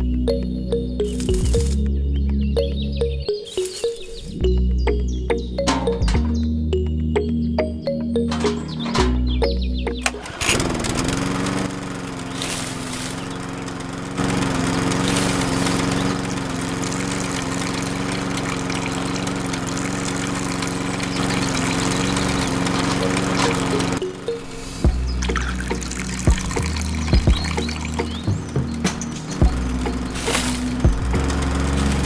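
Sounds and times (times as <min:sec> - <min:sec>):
small diesel engine running: 0:00.0 - 0:01.9, 0:03.5 - 0:07.2, 0:08.1 - 0:32.0.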